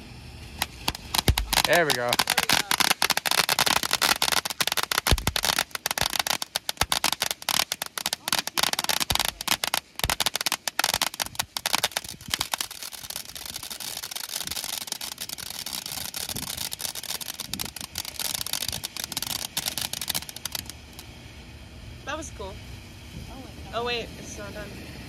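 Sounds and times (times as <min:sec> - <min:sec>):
crackling firework: 0:00.0 - 0:25.0.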